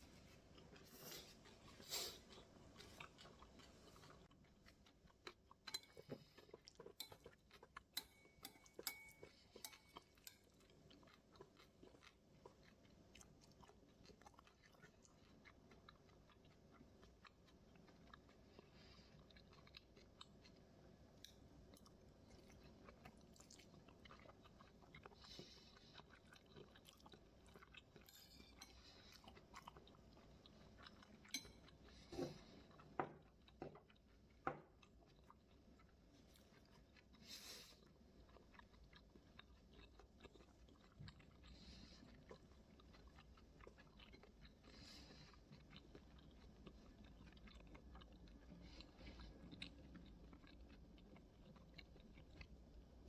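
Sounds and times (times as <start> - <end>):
chewing with soft crunches: 0.0 - 53.0.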